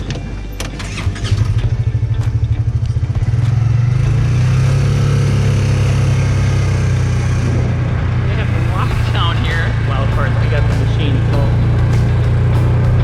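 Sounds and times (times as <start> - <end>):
vehicle engine pulling away: 0.0 - 13.0.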